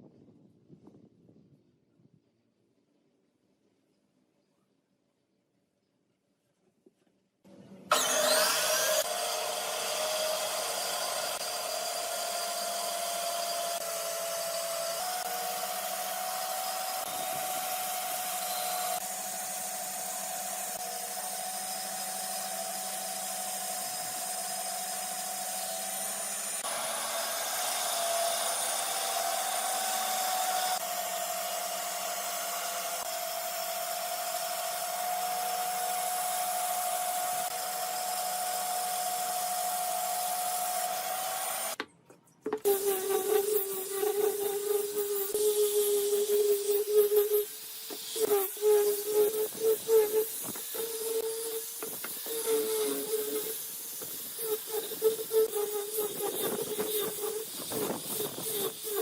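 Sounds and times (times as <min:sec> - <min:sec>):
power tool motor whining on wood: 0:07.9 - 0:41.8, 0:42.6 - 0:59.0.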